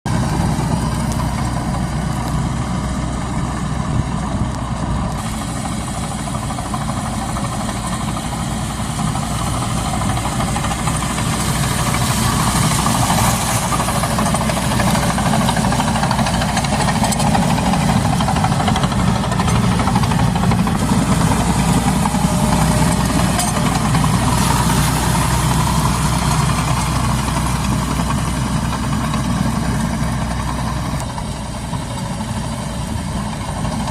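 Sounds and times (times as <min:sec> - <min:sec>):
diesel engine running: 0:00.1 - 0:33.9
rushing noise: 0:00.1 - 0:33.9.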